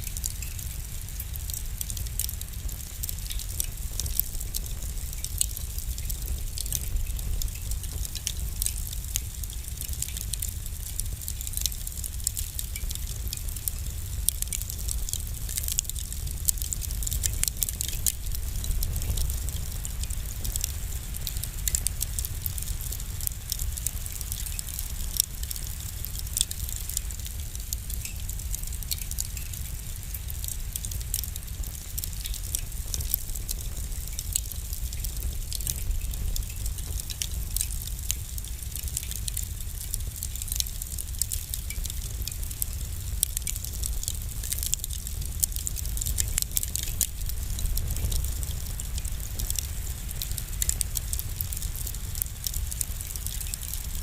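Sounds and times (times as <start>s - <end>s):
low fire rumble: 0.0s - 54.0s
wood fire crackling and popping: 0.0s - 54.0s.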